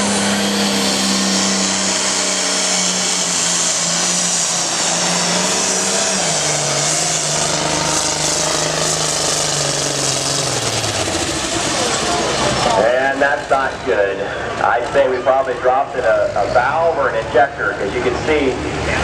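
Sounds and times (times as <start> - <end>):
tractor engine under load: 0.0 - 19.0.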